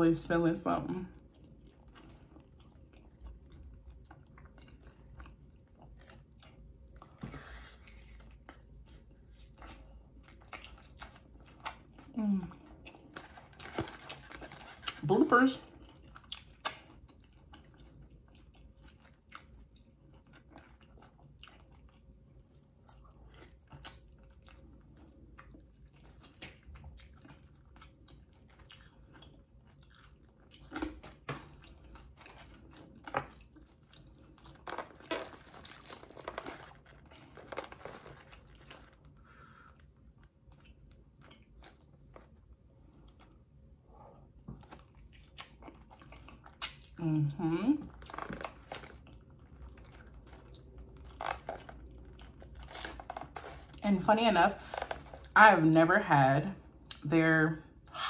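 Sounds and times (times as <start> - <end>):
person chewing: 1.2 - 15.0, 15.6 - 47.0, 47.9 - 53.8, 54.6 - 55.4
food crunching: 1.2 - 43.7, 44.4 - 47.0, 47.8 - 55.4.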